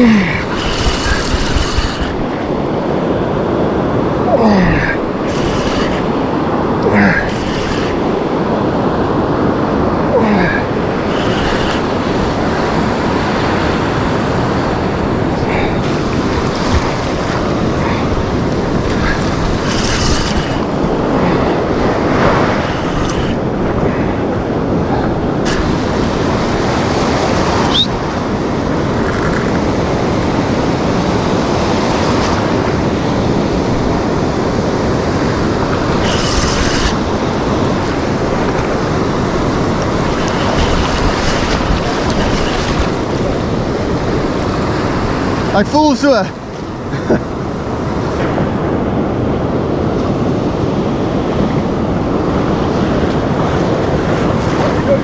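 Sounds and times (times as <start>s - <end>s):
surf breaking on beach: 0.0s - 55.0s
wind rumbling on microphone: 0.0s - 55.0s.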